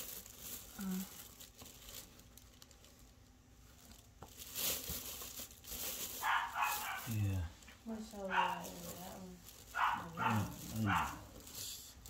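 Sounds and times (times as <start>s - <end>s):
crinkling rustle: 0.0s - 12.0s.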